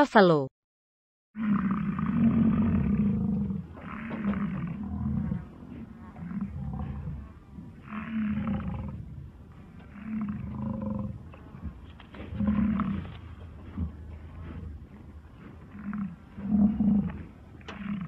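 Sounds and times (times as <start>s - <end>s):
water buffalo lowing: 1.4s - 18.0s.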